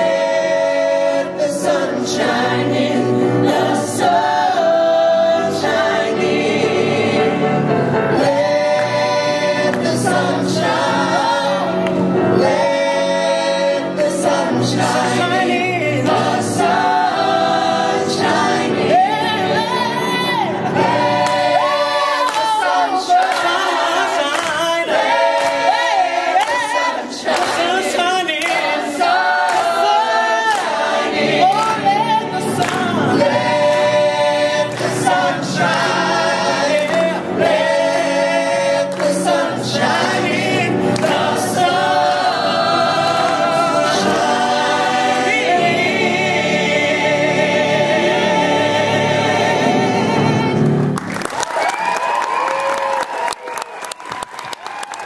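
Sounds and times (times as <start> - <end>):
group singing in harmony: 0.0 - 51.1.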